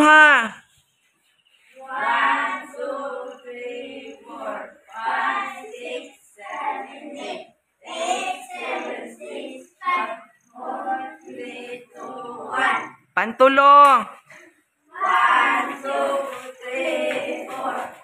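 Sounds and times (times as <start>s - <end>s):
children singing together: 1.7s - 13.0s, 14.8s - 18.0s.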